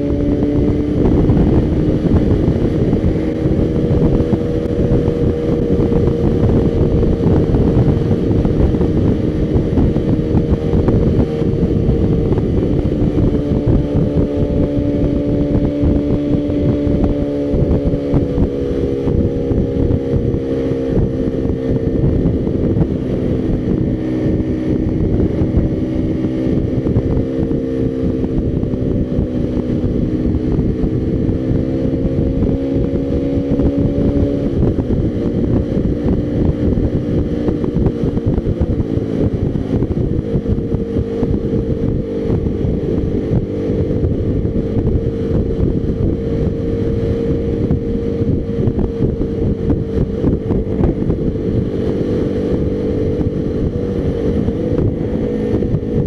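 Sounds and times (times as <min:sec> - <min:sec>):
motorcycle engine cruising: 0:00.0 - 0:56.0
wind on microphone: 0:00.0 - 0:56.0.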